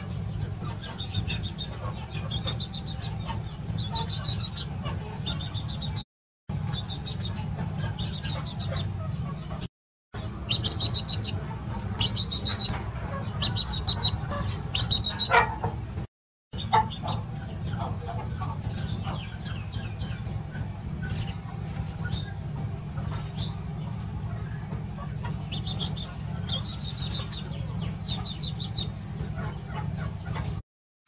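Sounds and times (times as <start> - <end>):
birds trilling: 0.0 - 16.0, 16.6 - 30.6
steady low hum: 0.0 - 30.6.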